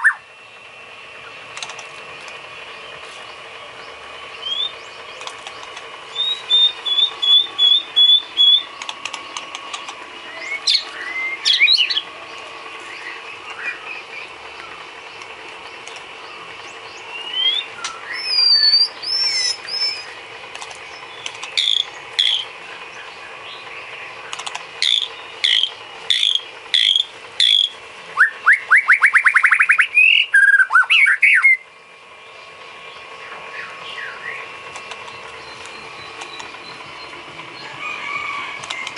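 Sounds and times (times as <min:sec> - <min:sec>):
fast rattling bird trill: 0:00.0 - 0:38.9
songbird singing: 0:00.0 - 0:38.9.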